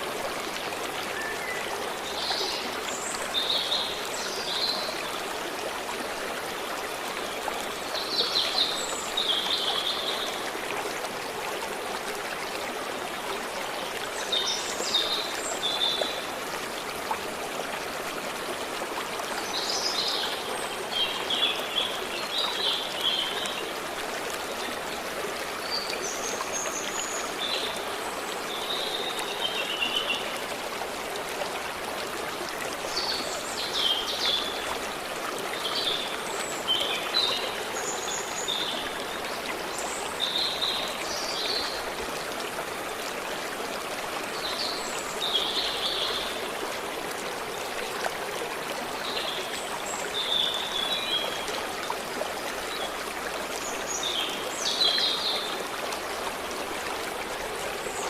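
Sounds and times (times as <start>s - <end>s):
stream flowing and trickling: 0.0s - 58.0s.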